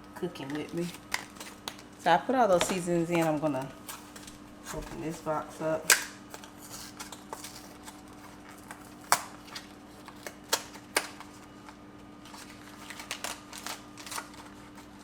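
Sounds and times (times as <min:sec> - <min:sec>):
packaging crackles: 0:00.4 - 0:05.2, 0:05.9 - 0:15.0.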